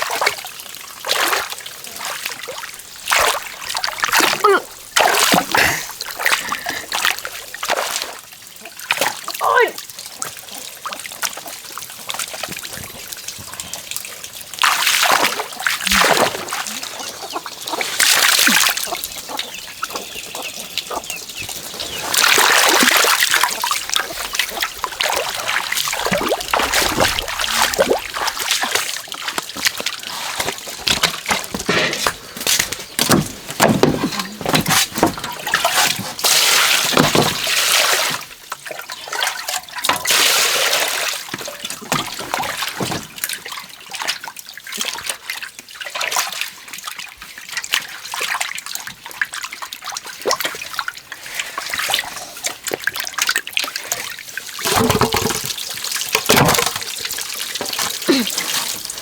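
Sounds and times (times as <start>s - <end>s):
pond water splashing: 0.0s - 59.0s
water trickling and dripping: 0.0s - 59.0s.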